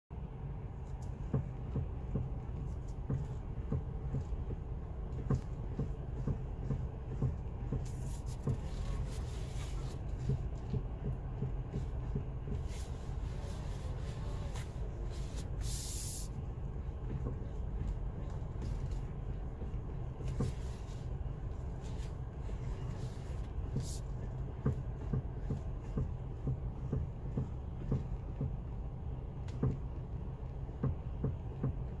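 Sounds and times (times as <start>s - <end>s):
steady low hum: 0.1s - 32.0s
steering column clunking: 0.7s - 32.0s.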